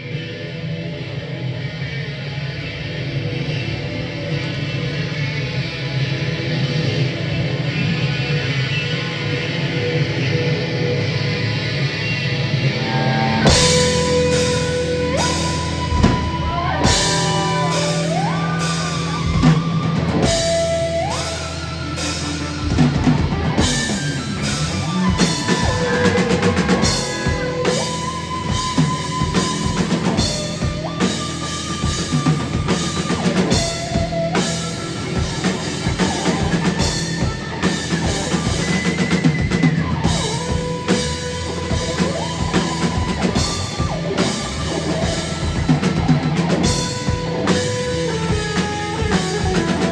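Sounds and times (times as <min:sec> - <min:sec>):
drums hitting steadily: 0:00.0 - 0:49.9
rock band playing: 0:00.0 - 0:49.9.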